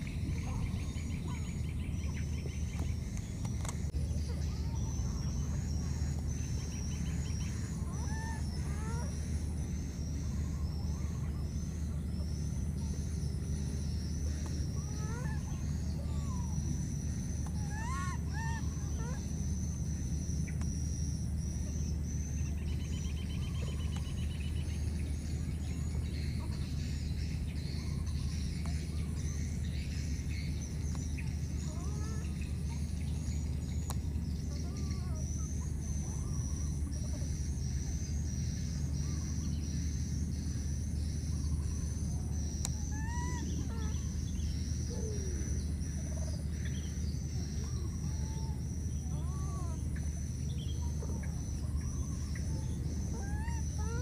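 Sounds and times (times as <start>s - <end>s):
insects chirring: 0.0s - 54.0s
steady low rumble: 0.0s - 54.0s.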